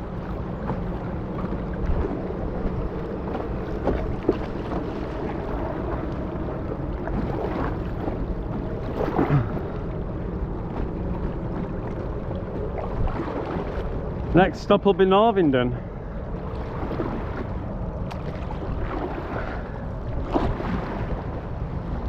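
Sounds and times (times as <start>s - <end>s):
paddle splashes: 0.0s - 22.0s
water splashing around hull: 0.0s - 22.0s
wind rumble on microphone: 0.0s - 22.0s.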